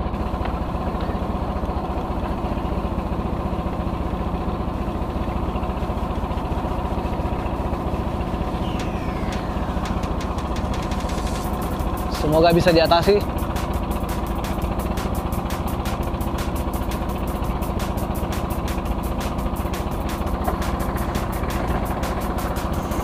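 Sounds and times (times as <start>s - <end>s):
boat engine throbbing: 0.0s - 23.0s.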